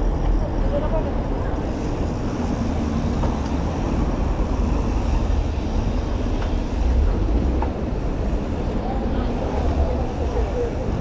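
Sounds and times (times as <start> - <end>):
car traffic: 0.0 - 11.0.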